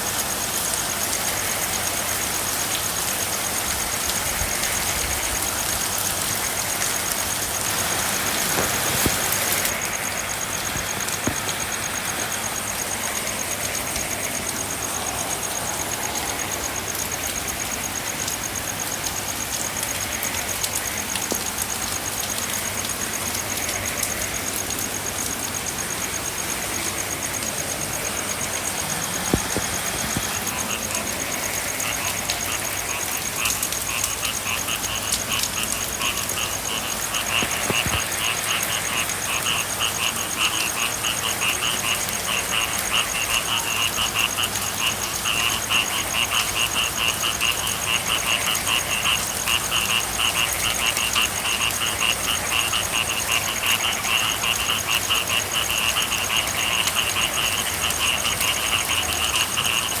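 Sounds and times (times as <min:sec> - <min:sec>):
frogs calling in trills: 0:00.0 - 1:00.0
rain pattering: 0:00.0 - 1:00.0.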